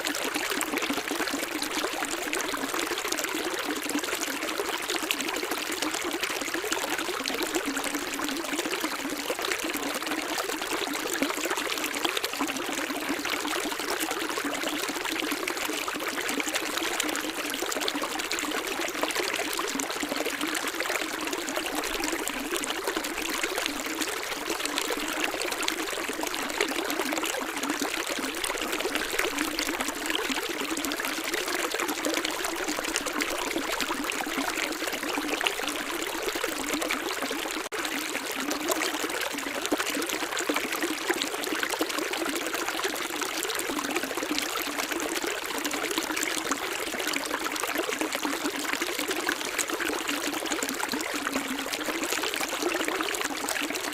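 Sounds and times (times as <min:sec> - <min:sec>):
stream water flowing: 0:00.0 - 0:53.9.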